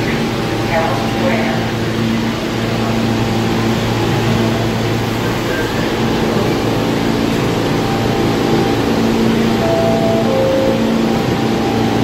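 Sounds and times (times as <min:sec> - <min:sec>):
subway train humming at platform: 0:00.0 - 0:12.0.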